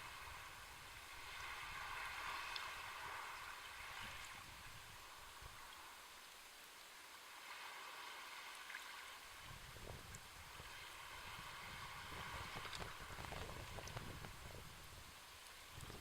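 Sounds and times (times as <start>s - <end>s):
faint sea waves washing: 0.0s - 16.0s.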